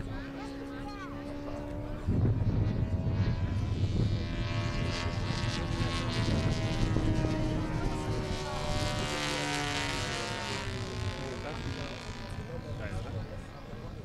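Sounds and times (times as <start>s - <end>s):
model plane engine drone: 0.0s - 14.0s.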